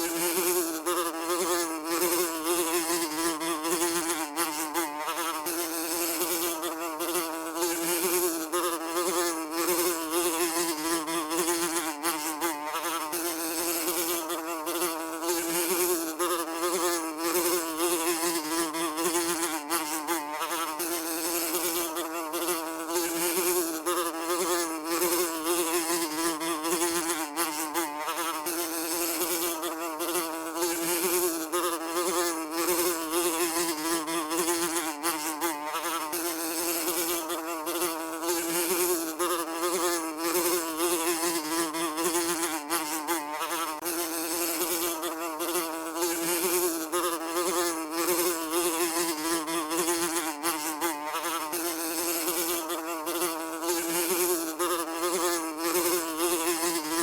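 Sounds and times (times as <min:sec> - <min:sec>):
fly buzzing: 0:00.0 - 0:57.0.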